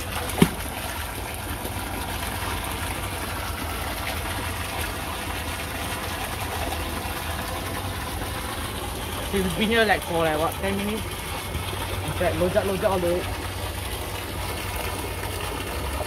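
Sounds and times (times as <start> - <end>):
low mechanical hum: 0.0 - 16.0
water-like noise: 0.0 - 16.0.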